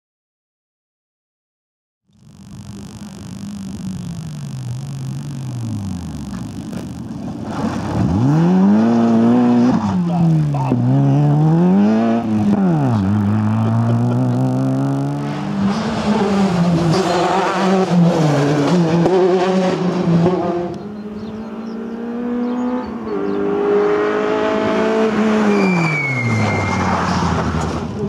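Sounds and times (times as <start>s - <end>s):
rally car engine accelerating: 2.3s - 28.0s.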